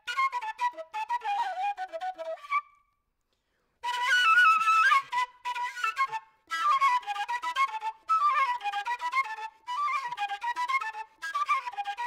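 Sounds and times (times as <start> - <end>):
flute melody: 0.0 - 3.0, 3.8 - 12.0.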